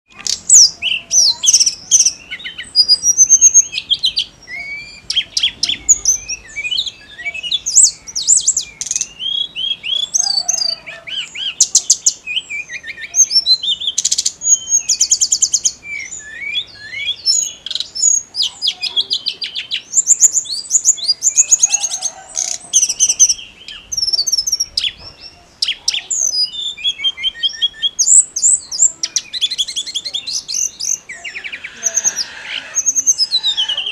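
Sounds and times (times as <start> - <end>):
bird singing high-pitched whistles: 0.2 - 33.9.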